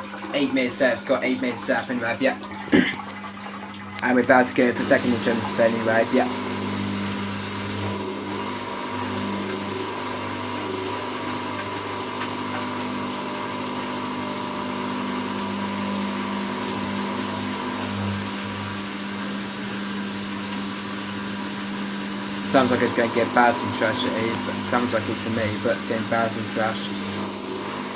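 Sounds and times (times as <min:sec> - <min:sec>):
washing machine spinning: 0:00.0 - 0:27.9.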